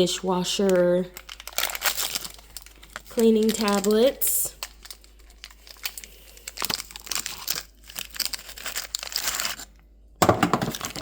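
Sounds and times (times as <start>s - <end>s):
wrapper crinkling and tearing: 0.5s - 11.0s.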